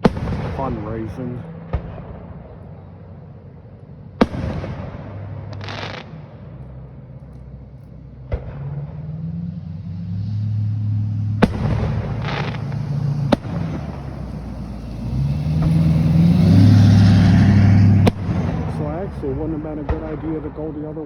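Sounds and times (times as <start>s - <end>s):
fireworks bangs: 0.0s - 9.2s, 11.2s - 21.0s
vehicle engine humming: 0.0s - 21.0s.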